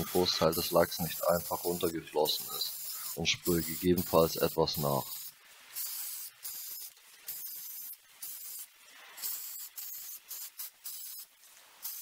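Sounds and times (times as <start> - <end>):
aerosol spray can hissing: 0.0 - 12.0.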